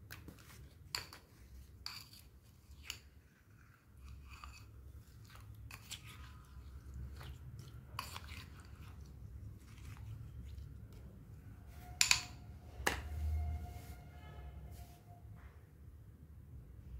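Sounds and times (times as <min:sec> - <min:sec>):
spoon squelching wet clay: 0:00.0 - 0:14.0.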